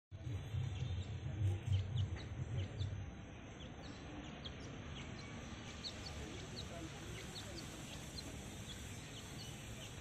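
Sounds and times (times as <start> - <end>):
bird chick peeping: 0.2 - 10.0.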